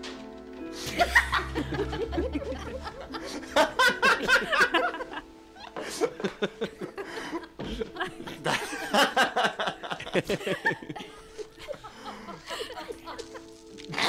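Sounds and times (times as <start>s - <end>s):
soft background music: 0.0s - 14.0s
audience laughing: 0.8s - 13.5s.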